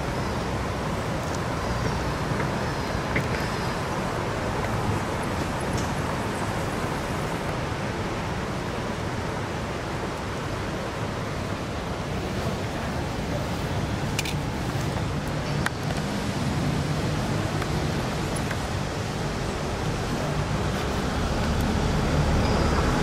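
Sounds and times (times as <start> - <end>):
outdoor rumble and hiss: 0.0 - 23.0.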